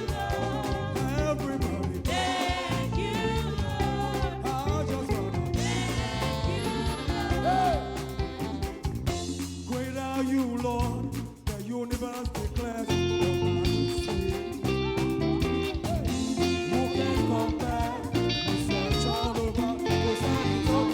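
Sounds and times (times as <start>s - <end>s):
people singing: 0.0s - 8.9s, 12.8s - 20.9s
gospel band playing: 0.0s - 20.9s
guitar: 0.0s - 20.9s.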